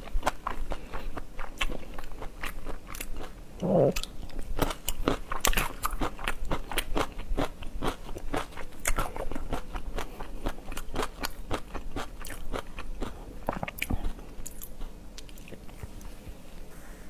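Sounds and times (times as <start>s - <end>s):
biting and chewing seafood: 0.0s - 15.9s.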